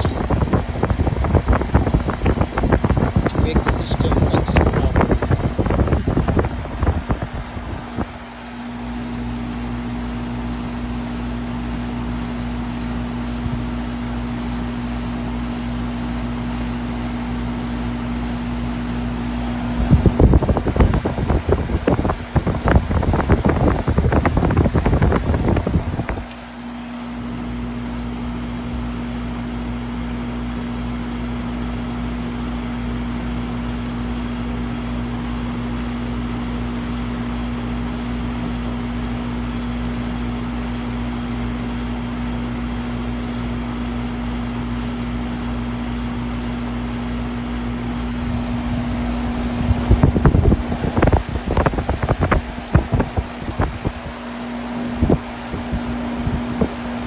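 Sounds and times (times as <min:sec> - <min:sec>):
air conditioner unit humming: 0:00.0 - 0:57.0
condenser fan rushing: 0:00.0 - 0:57.0.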